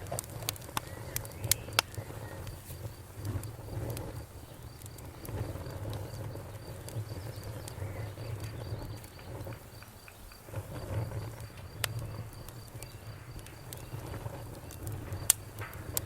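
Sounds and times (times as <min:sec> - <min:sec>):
bonfire crackling and popping: 0:00.0 - 0:16.0
crickets chirping: 0:00.0 - 0:16.0
low rumble of burning wood: 0:00.0 - 0:16.0.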